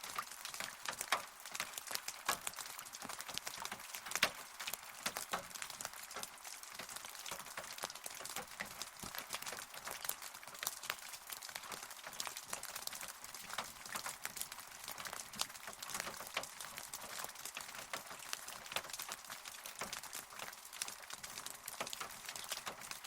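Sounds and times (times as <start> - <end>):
rain falling: 0.0 - 23.0
raindrops ticking close by: 0.0 - 23.0.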